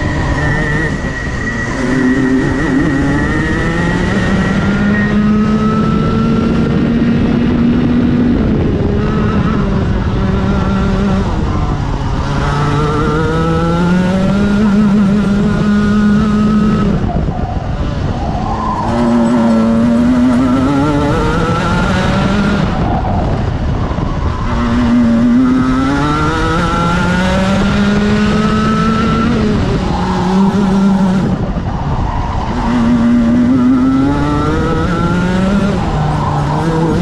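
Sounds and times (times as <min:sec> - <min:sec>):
kart engine revving: 0:00.0 - 0:37.0.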